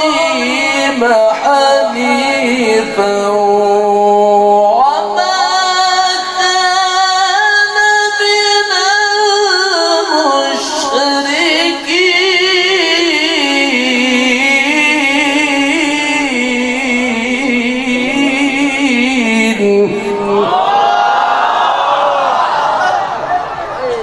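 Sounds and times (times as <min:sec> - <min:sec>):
man reciting melodically: 0:00.0 - 0:20.7.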